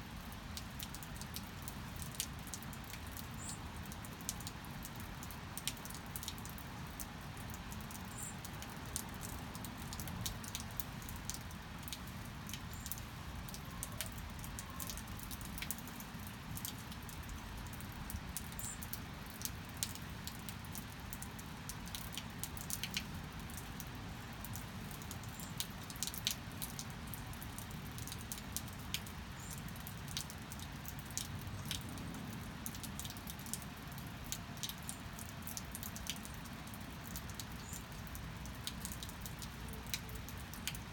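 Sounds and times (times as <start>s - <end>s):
sharp drips and patter: 0.0s - 40.9s
steady rain: 0.0s - 40.9s.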